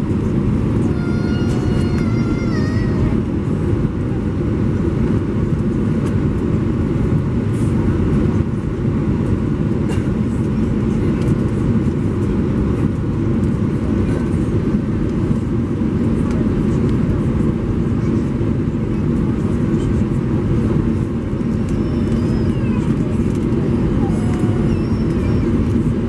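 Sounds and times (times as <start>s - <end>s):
aircraft cabin rumble: 0.0s - 26.0s.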